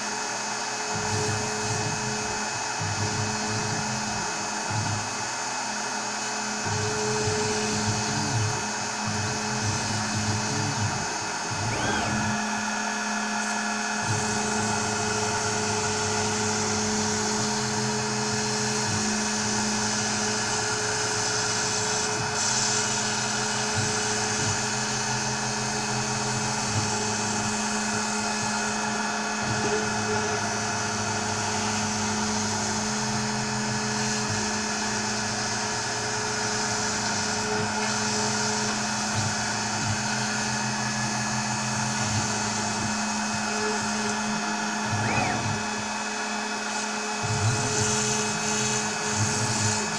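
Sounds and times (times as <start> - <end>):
router spindle whine: 0.0 - 49.9
stepper motor tones: 0.1 - 49.9.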